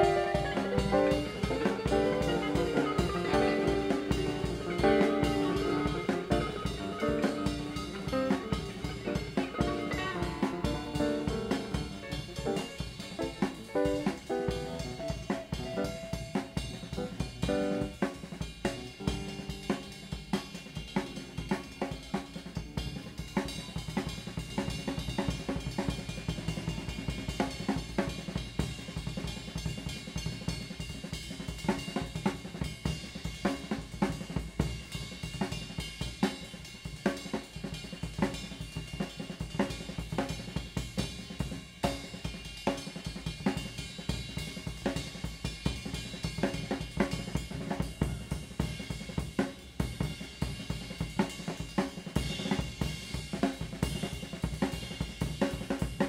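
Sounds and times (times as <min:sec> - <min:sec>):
cymbals and hi-hat: 0:00.0 - 0:56.0
snare and bass drum strokes: 0:00.0 - 0:56.0.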